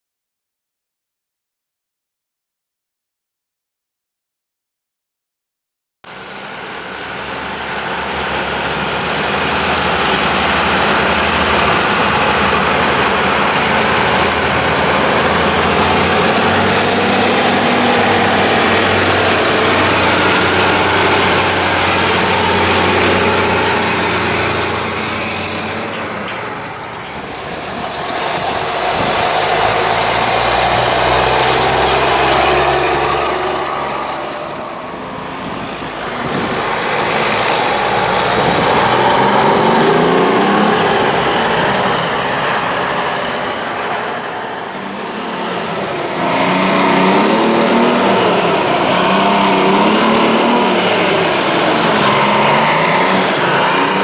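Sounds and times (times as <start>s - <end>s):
truck diesel engines driving past: 6.1s - 54.0s.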